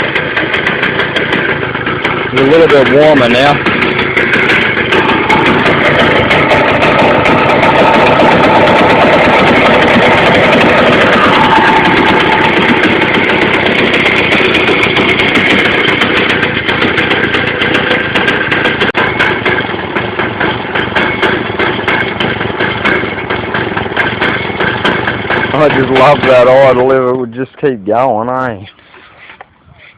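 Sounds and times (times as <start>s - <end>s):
two-stroke engine idling: 0.0s - 29.8s.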